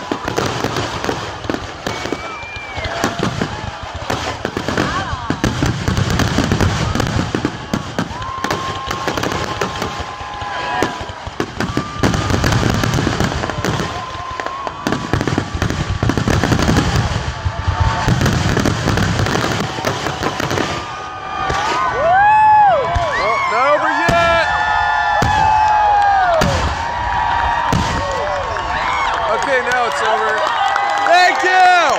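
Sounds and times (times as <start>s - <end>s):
fireworks bursting and crackling: 0.0s - 31.9s.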